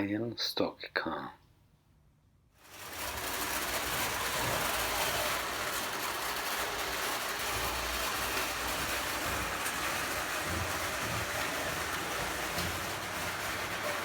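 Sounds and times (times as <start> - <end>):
model train running on track: 2.6 - 14.0.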